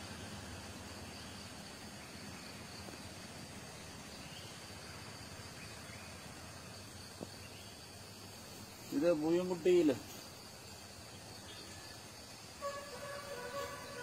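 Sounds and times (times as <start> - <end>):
high-pitched insect drone: 0.0 - 14.0
low hiss: 0.0 - 14.0.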